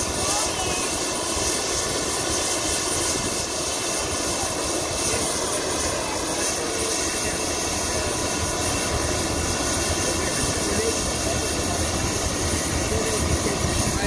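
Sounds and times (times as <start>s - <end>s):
helicopter idling: 0.0s - 14.0s.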